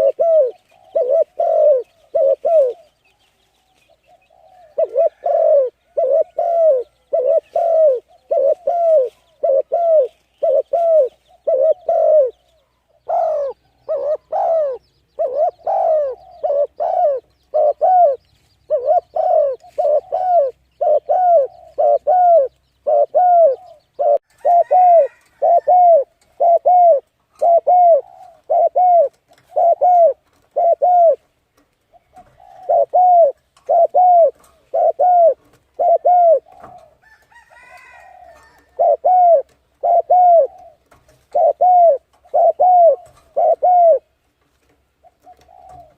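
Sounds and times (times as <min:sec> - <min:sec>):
bird cooing: 0:00.0 - 0:31.2, 0:31.9 - 0:44.2, 0:45.0 - 0:45.9.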